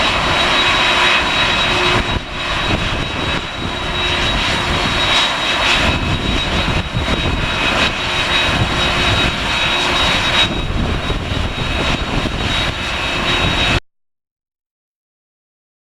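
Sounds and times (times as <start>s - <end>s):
jet engines whining: 0.0s - 13.8s.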